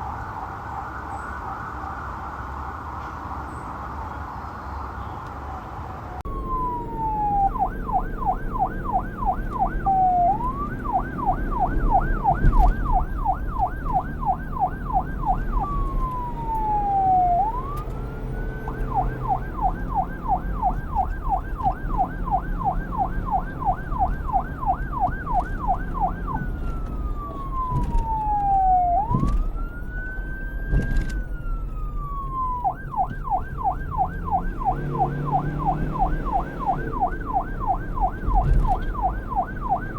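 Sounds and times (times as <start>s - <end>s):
low vehicle rumble: 0.0s - 39.9s
electronic police siren: 6.2s - 39.9s.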